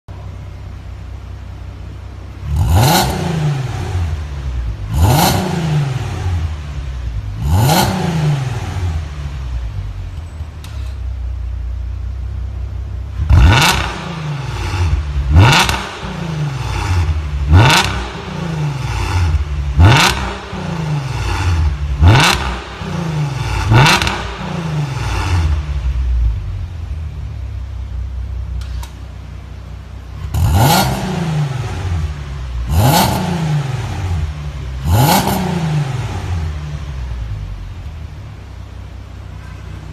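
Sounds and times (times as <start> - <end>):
car engine idling: 0.1 - 39.9
car engine revving: 0.4 - 10.8, 12.1 - 39.9.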